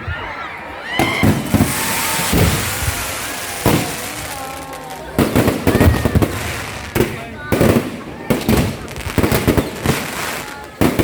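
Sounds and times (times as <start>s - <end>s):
faint voices: 0.0s - 11.0s
fireworks bangs: 0.9s - 11.0s
crackling hiss: 1.4s - 11.0s.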